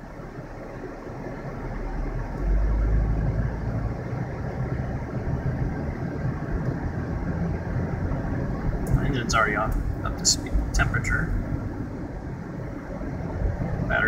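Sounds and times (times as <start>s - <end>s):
air conditioning noise: 0.0s - 14.0s
car engine rumbling: 0.0s - 14.0s
road noise: 0.0s - 14.0s.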